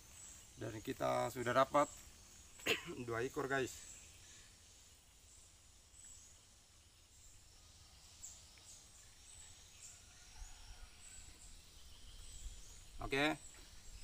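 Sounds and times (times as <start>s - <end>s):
insect hiss: 0.0s - 14.0s.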